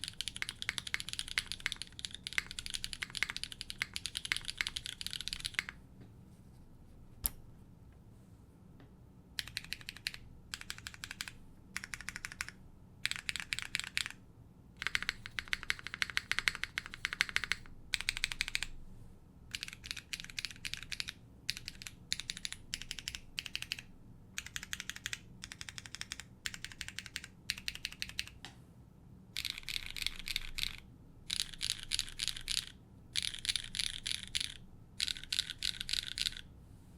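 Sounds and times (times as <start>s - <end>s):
mechanical keyboard typing: 0.0s - 5.8s, 9.4s - 14.2s, 14.8s - 18.7s, 19.5s - 28.4s, 29.4s - 36.5s.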